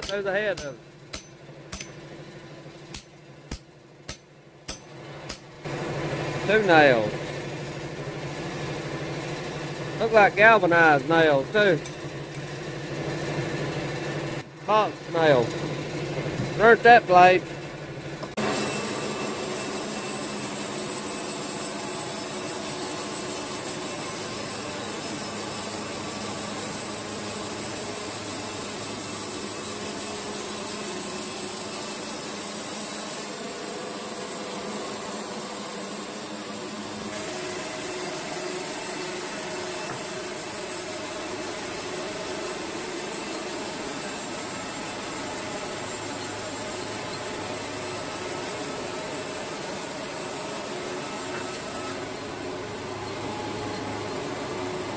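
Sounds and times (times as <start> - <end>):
band saw cutting log: 0.0 - 2.2, 2.8 - 17.6, 18.2 - 54.9.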